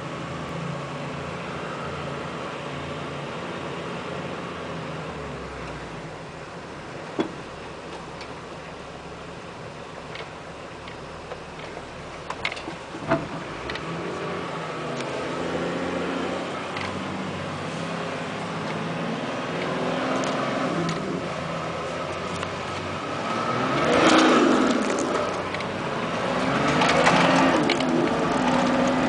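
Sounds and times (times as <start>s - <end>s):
diesel engine running in cabin: 0.0s - 29.0s.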